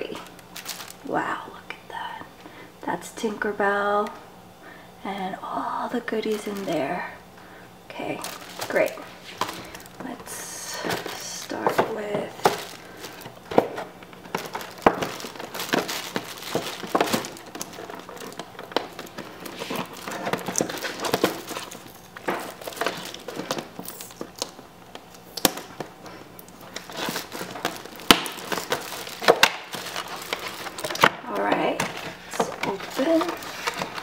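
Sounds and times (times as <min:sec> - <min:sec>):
packaging crinkling and rustling: 0:00.0 - 0:01.4, 0:06.1 - 0:07.0, 0:07.9 - 0:34.0.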